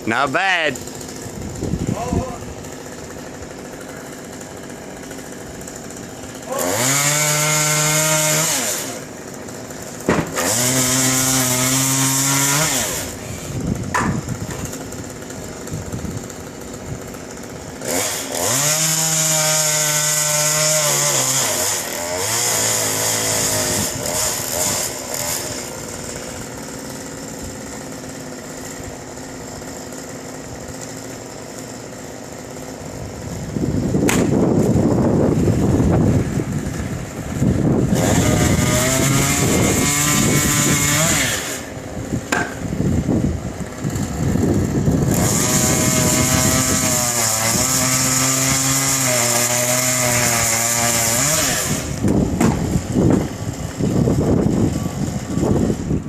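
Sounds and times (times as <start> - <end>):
chainsaw idling and revving: 0.0 - 56.0.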